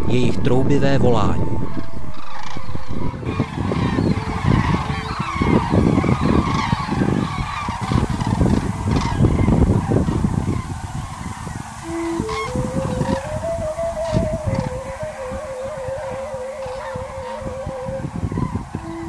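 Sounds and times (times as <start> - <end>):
cranes trumpeting calls: 2.1 - 19.0.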